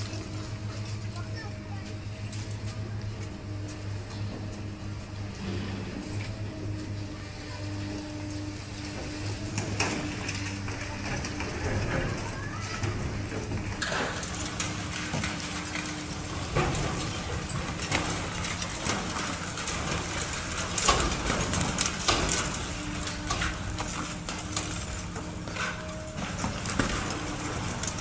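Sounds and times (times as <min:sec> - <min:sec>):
sharp clanks and knocks: 0:00.0 - 0:07.1, 0:07.8 - 0:28.0
heavy machinery humming: 0:00.0 - 0:28.0.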